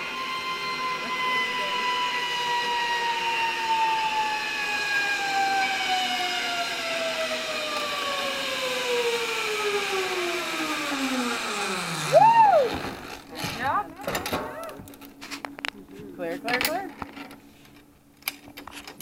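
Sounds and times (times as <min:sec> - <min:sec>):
pulley wheels whining on cable: 0:00.0 - 0:15.5.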